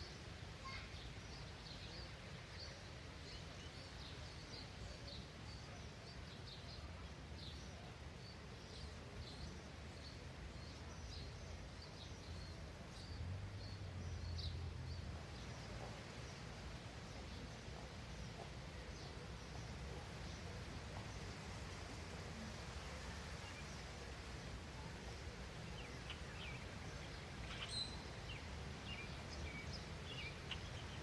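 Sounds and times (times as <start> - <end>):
small birds chirping: 0.0 - 31.0
low outdoor rumble: 5.7 - 31.0.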